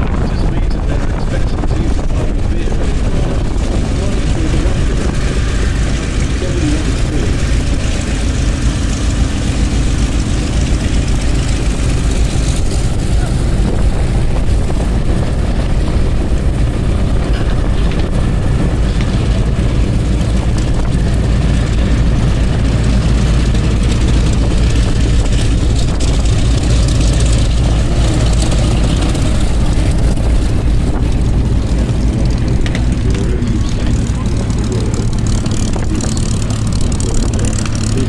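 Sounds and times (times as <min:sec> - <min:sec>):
propeller plane engine drone: 0:00.0 - 0:38.0.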